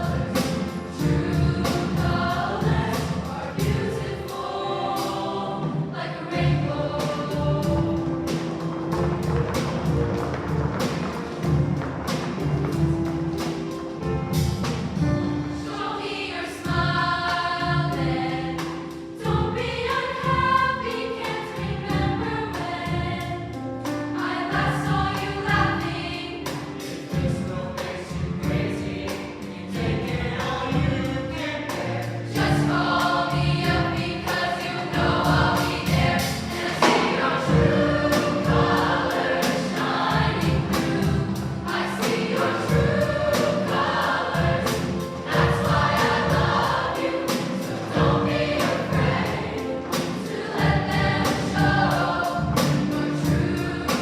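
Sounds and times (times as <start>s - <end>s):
choir singing: 0.0s - 10.1s, 10.8s - 54.0s
accompaniment with steady beat: 0.0s - 15.8s, 24.1s - 54.0s.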